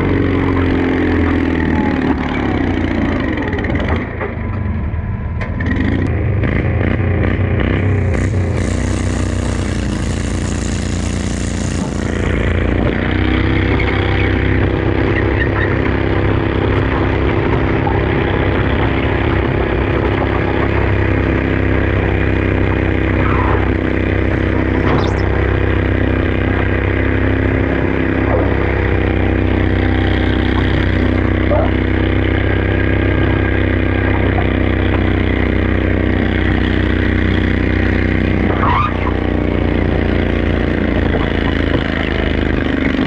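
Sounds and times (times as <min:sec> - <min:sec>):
tractor engine under heavy load: 0:00.0 - 0:43.0.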